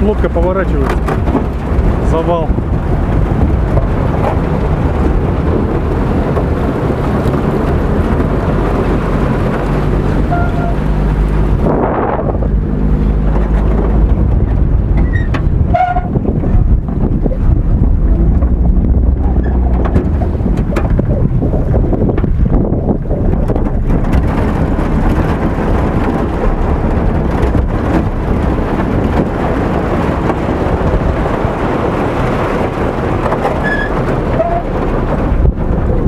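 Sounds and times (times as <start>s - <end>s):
boat motor running: 0.0s - 36.0s.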